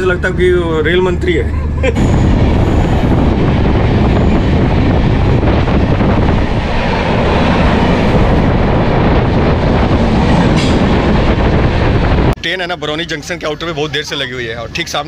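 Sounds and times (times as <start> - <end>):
train wheels rumbling and rattling: 0.0 - 12.4.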